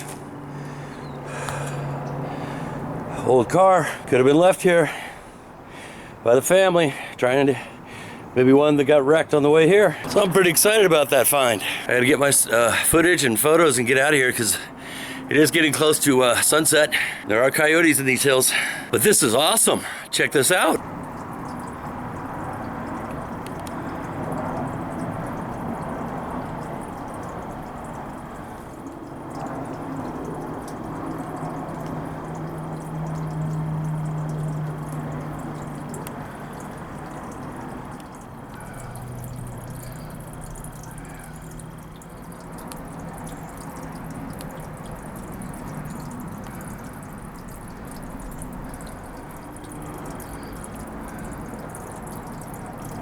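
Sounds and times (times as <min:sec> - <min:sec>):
small waterfall trickling: 0:00.0 - 0:53.0.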